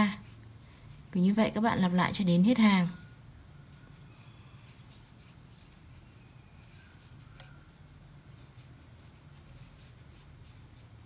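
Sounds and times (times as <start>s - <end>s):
crochet hook scratching yarn: 0.0s - 11.0s
low steady hum: 0.0s - 11.0s.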